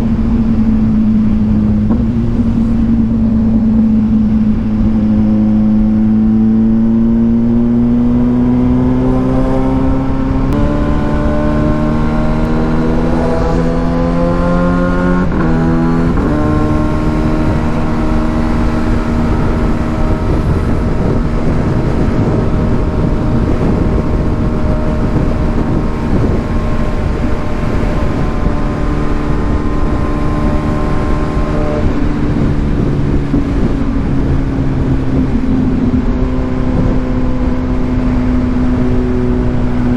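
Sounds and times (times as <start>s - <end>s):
motorcycle engine shifting gears: 0.0s - 39.9s
wind rushing: 0.0s - 39.9s.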